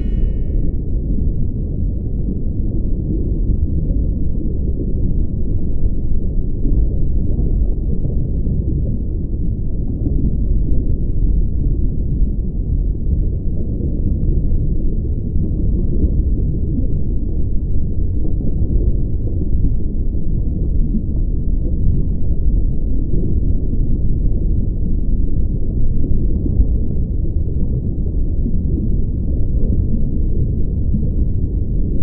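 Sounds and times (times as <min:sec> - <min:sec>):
muffled low rumble: 0:00.0 - 0:32.0.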